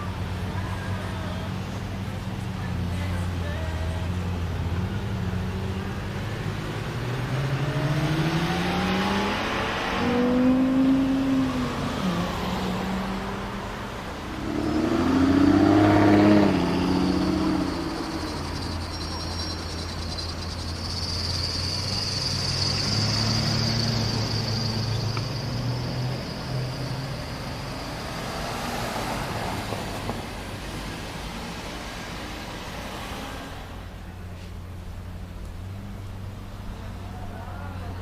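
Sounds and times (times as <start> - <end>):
car engine revving: 1.8 - 33.8.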